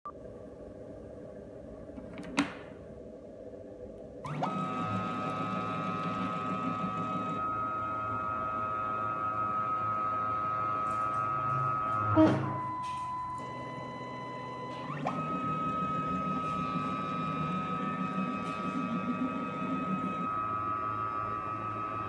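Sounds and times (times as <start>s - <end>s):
stepper motor whining: 4.2s - 22.0s.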